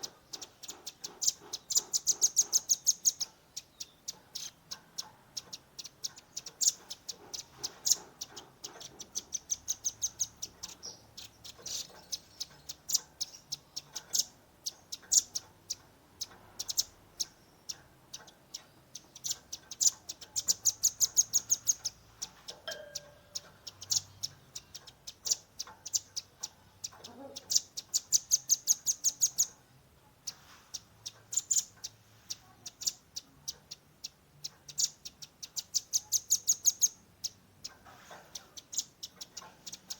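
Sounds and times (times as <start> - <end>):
bird chipping and trilling: 0.0 - 39.9.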